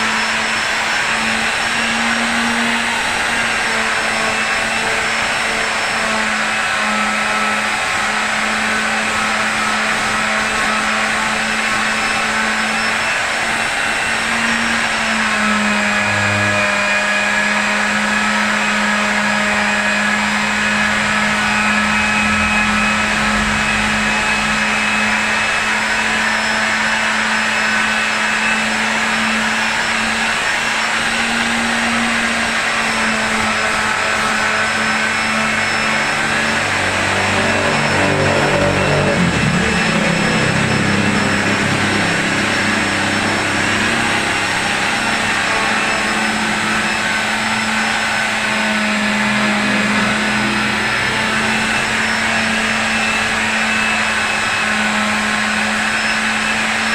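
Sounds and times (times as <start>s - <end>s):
small motor humming: 0.0s - 56.9s.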